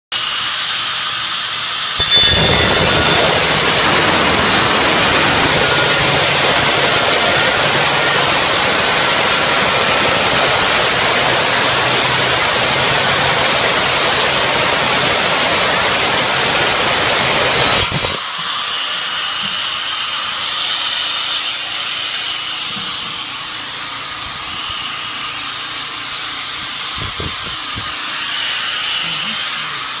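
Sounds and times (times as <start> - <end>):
grinder cutting tile: 0.1 - 30.0
angle grinder whining: 0.2 - 30.0.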